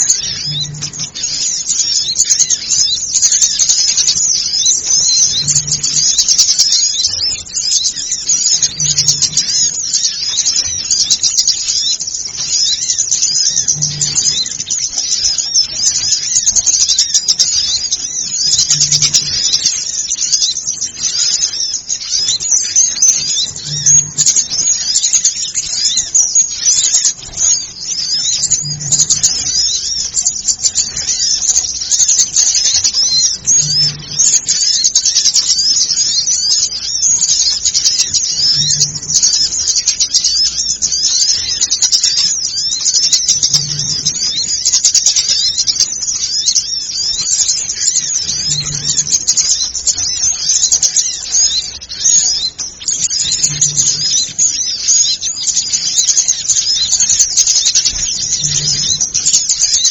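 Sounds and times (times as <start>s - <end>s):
small birds chattering and chirping: 0.0s - 59.9s.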